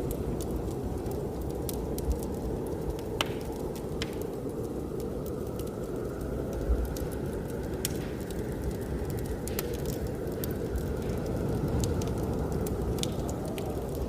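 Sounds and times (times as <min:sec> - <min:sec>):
blizzard wind rushing: 0:00.0 - 0:14.0
wood fire crackling: 0:00.0 - 0:14.0.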